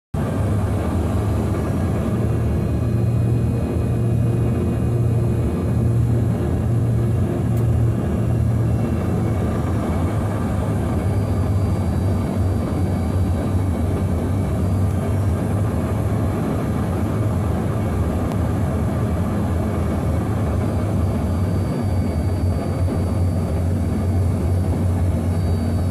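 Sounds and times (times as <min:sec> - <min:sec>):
loud engine rumble: 0:00.1 - 0:25.9.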